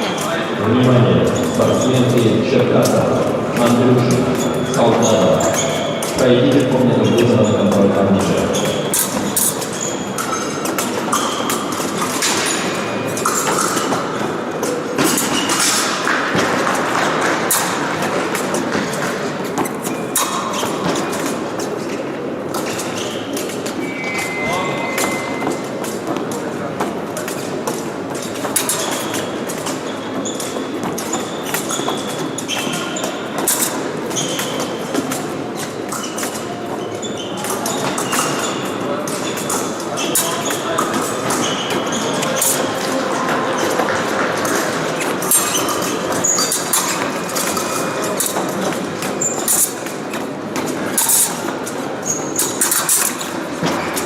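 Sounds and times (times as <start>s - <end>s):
fencing blades clashing: 0.0s - 54.0s
shoes squeaking: 0.0s - 54.0s
sports hall background noise: 0.0s - 54.0s.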